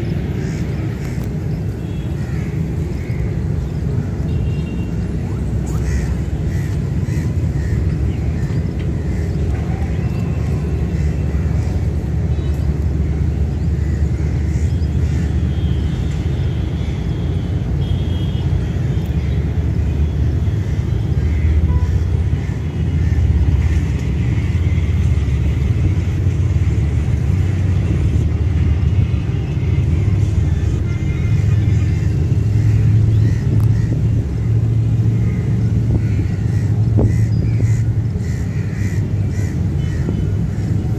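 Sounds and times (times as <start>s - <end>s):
diesel train rumbling: 0.0s - 4.3s, 4.9s - 17.8s, 18.5s - 40.9s.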